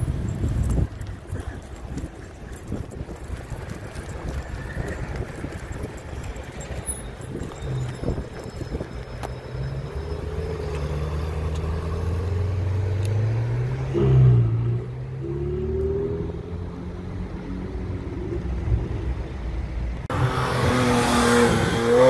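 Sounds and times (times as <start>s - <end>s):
car engine pulling away: 2.0s - 19.5s, 20.1s - 22.0s.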